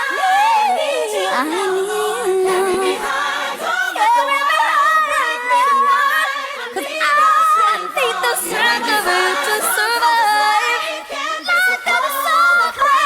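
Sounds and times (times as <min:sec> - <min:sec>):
gospel choir singing: 0:00.0 - 0:13.0
woman singing lead: 0:00.0 - 0:13.0.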